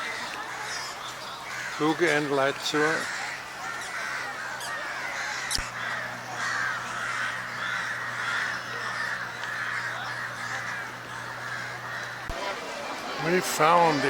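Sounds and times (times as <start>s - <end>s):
flock of birds calling: 0.0s - 14.0s
steady low hum: 0.0s - 14.0s.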